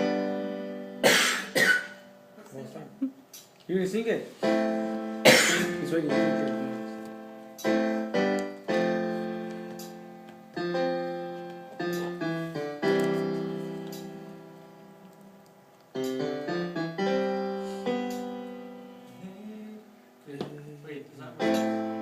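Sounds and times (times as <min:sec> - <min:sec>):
piano playing slow chords: 0:00.0 - 0:02.6, 0:04.3 - 0:22.0.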